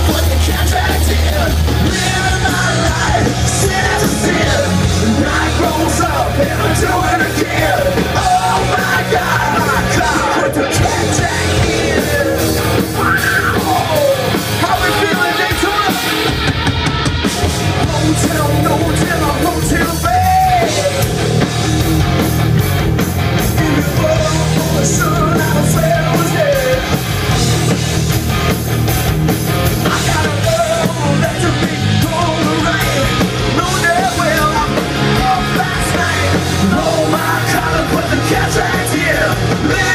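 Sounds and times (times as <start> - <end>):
person singing: 0.0 - 16.2, 17.8 - 21.2, 23.5 - 26.9, 29.8 - 39.9
electric guitars: 0.0 - 39.9
live rock band playing: 0.0 - 39.9.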